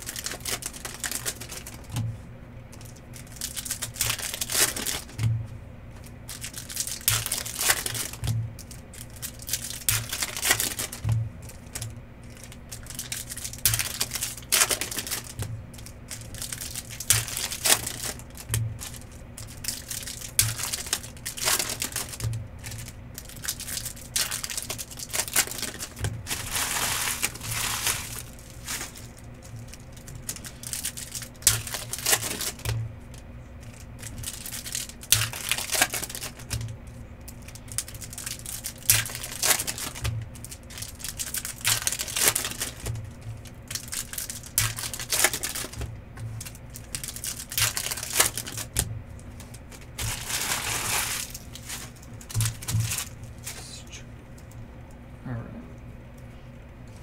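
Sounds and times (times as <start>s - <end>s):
wrappers crinkling and tearing: 0.0s - 2.0s, 2.7s - 5.2s, 6.0s - 53.8s.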